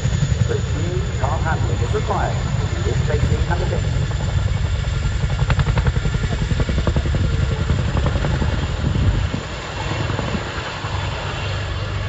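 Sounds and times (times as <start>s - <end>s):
deep engine rumble: 0.0s - 12.0s
helicopter rotors chopping: 0.0s - 12.0s.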